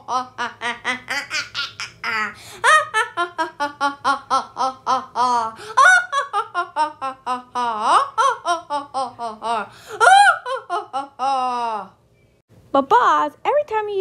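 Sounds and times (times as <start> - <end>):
child laughing evilly: 0.0 - 12.0.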